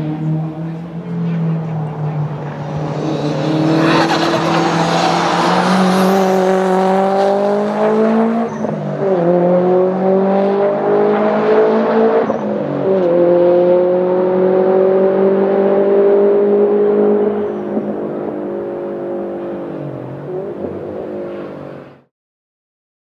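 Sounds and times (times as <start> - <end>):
car engine accelerating hard: 0.0 - 22.1.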